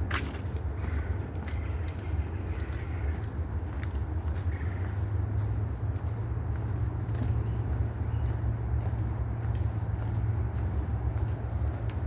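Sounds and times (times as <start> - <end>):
footsteps on woodland trail: 0.0 - 12.0.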